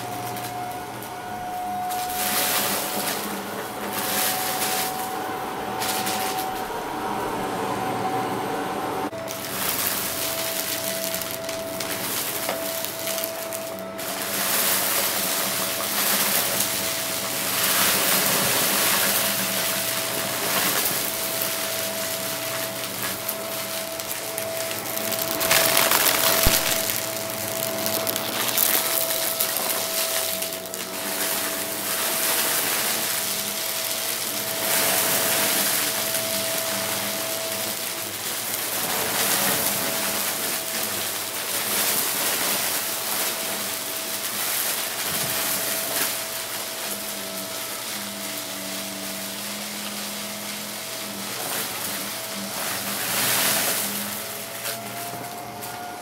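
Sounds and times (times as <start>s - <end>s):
debris rattling into vacuum: 0.0s - 8.3s, 9.0s - 56.0s
vacuum cleaner whining: 0.0s - 56.0s.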